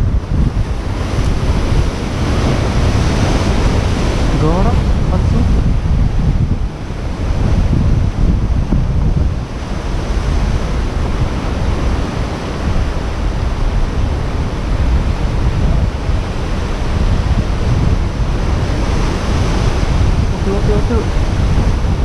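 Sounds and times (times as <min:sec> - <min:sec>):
surf washing on shore: 0:00.0 - 0:22.0
wind buffeting microphone: 0:00.0 - 0:22.0.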